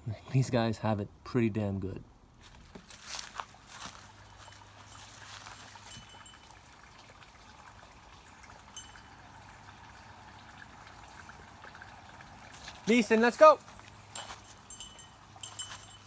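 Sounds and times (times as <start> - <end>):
water trickling: 2.7 - 16.0.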